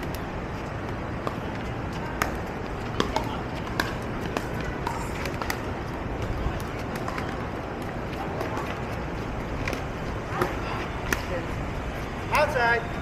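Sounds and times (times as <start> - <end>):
ball bouncing on pavement: 0.0 - 12.6
outdoor background noise: 0.0 - 13.0.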